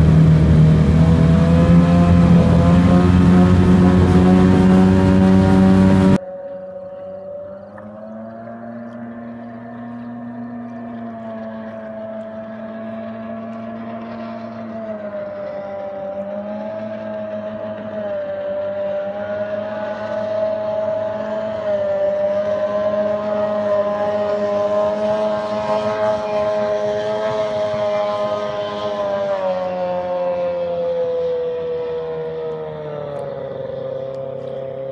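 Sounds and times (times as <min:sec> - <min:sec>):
buzzy outboard engine: 0:00.0 - 0:34.9.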